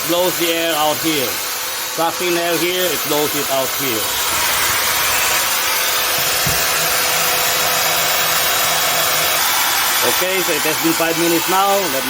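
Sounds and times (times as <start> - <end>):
circular saw running: 0.0 - 12.0.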